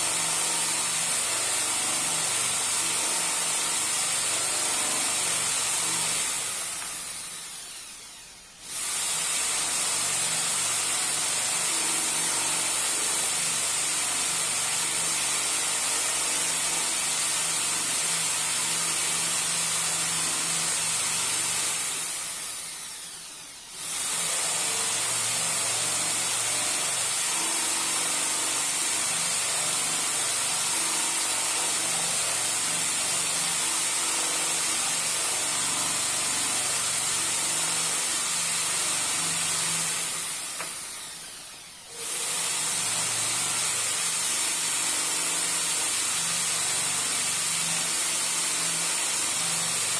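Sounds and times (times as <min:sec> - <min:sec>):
electric drill motor whine: 0:00.0 - 0:49.9.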